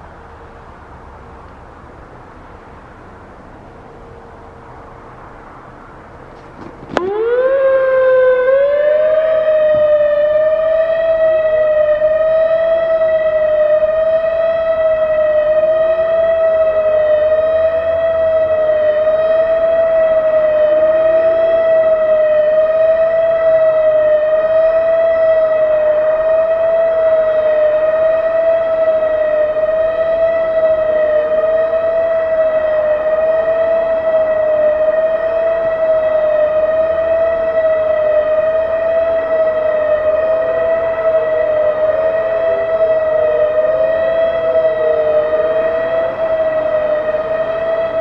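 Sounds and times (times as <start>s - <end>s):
distant sirens rising and falling: 0.0s - 48.0s
outdoor warning siren steady tone: 0.0s - 48.0s.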